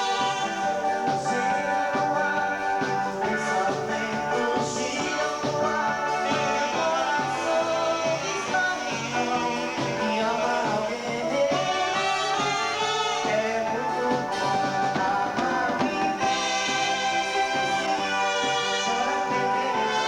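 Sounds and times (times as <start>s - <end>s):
live dance band with singing: 0.0s - 20.0s.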